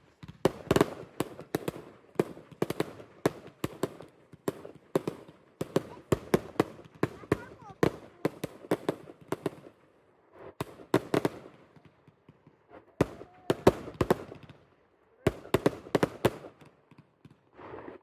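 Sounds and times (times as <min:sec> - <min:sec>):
fireworks bangs: 0:00.0 - 0:09.9, 0:10.5 - 0:18.0.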